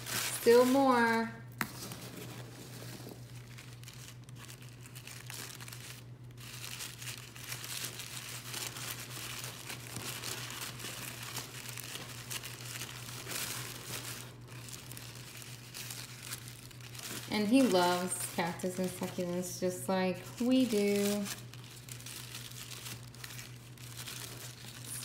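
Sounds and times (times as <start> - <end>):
packaging crinkling and rustling: 0.0 - 25.0
steady low hum: 0.0 - 25.0.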